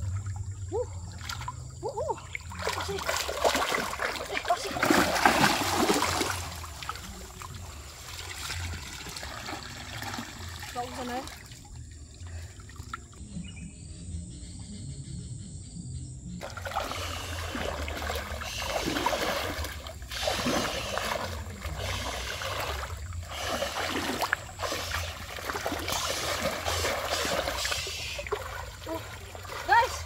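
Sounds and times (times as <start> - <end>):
water splashing: 0.0 - 13.1, 16.4 - 30.0.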